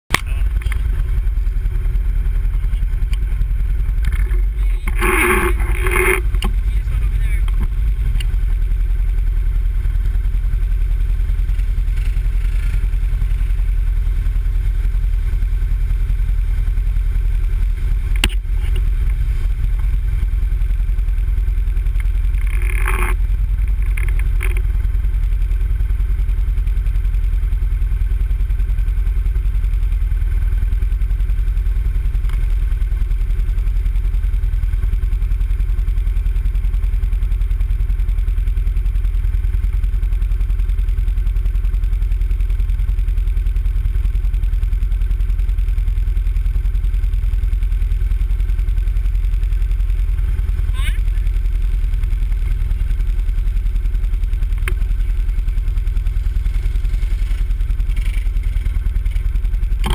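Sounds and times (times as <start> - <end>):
atv engine idling: 0.1 - 59.9.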